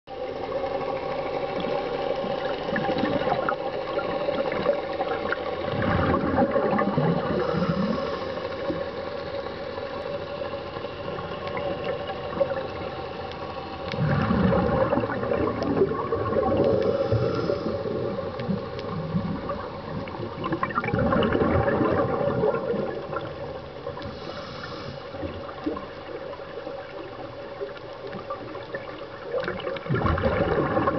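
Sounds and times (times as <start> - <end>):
steady underwater hum: 0.1 - 30.9
diver's exhaled bubbles gurgling: 0.5 - 30.9.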